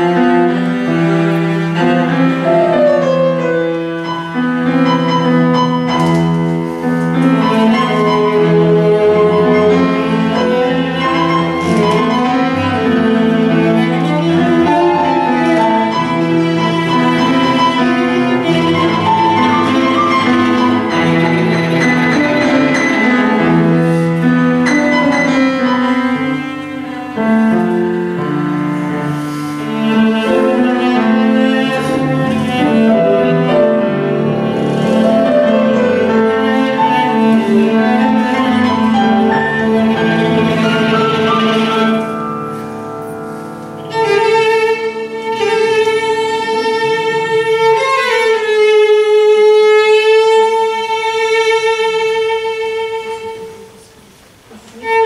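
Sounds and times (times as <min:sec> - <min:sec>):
viola cello and piano tango: 0:00.0 - 0:55.0.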